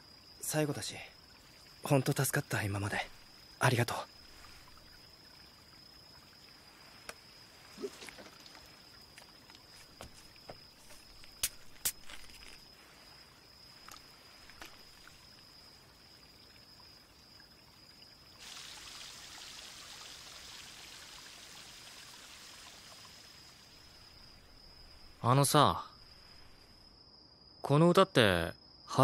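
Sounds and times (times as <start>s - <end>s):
cricket trilling: 0.0s - 29.0s
carbonation fizzing: 1.2s - 25.2s.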